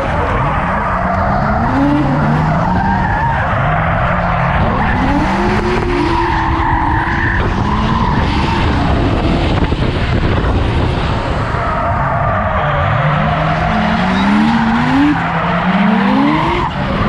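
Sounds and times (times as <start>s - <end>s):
tyres squealing in a drift: 0.0s - 9.6s, 11.2s - 17.0s
car engine revving: 0.0s - 17.0s.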